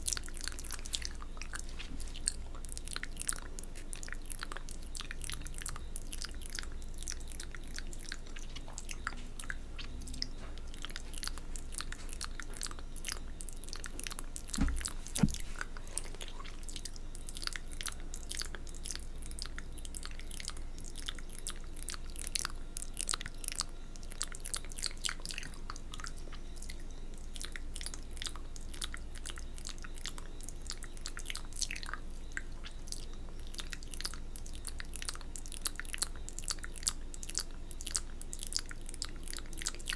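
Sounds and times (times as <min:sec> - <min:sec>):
wet mouth sounds: 0:00.0 - 0:39.9.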